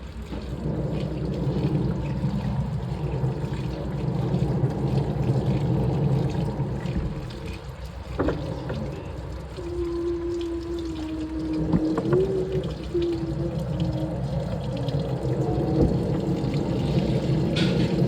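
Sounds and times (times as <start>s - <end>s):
washing machine water sloshing: 0.0s - 18.0s.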